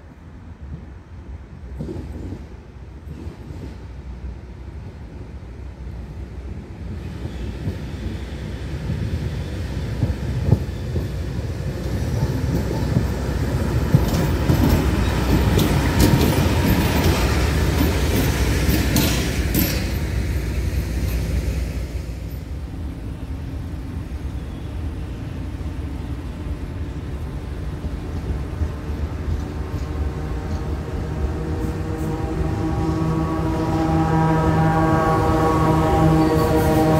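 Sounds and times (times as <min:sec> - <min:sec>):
diesel locomotive passing: 0:00.0 - 0:36.9
distant freight train rumble: 0:00.0 - 0:36.9.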